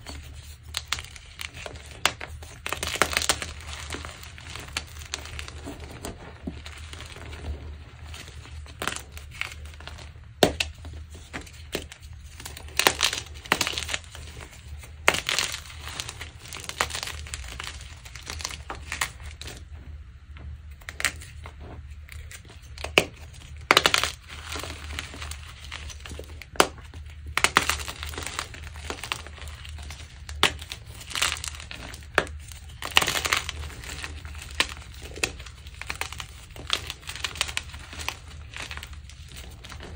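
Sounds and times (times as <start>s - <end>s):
chalk crunching and crumbling: 0.0s - 19.7s, 20.8s - 39.9s.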